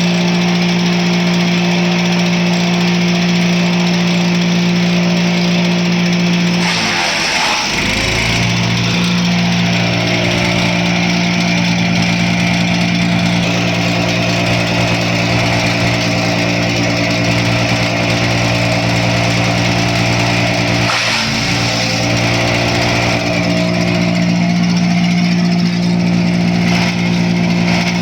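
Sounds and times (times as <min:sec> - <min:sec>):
wood chipper engine running: 0:00.0 - 0:28.0.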